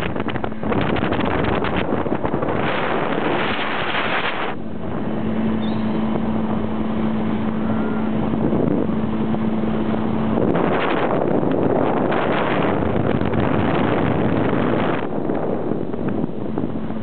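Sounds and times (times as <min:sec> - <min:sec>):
outboard motor humming: 0:00.0 - 0:17.0
wind rush on microphone: 0:00.0 - 0:17.0.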